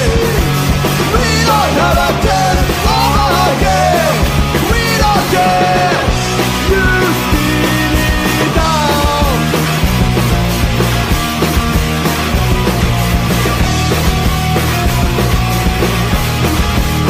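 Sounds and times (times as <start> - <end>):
loud rock band music: 0.0 - 17.0.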